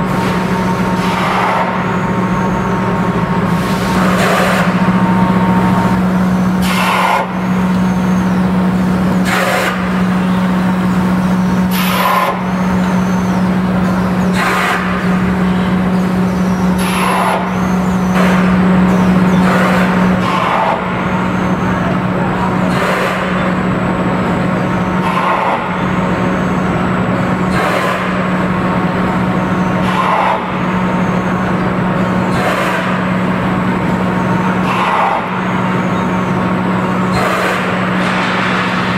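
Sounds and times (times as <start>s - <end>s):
machine motor hum: 0.0s - 38.9s.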